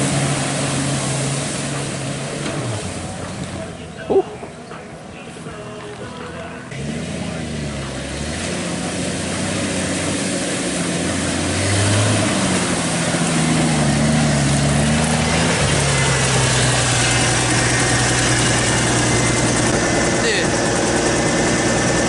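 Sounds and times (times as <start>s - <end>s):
truck engine revving and idling: 0.0s - 22.0s.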